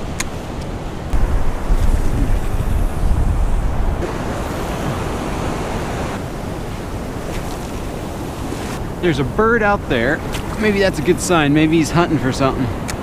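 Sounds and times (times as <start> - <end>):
ocean surf washing over sand: 0.0 - 13.0
wind buffeting microphone: 0.0 - 13.0.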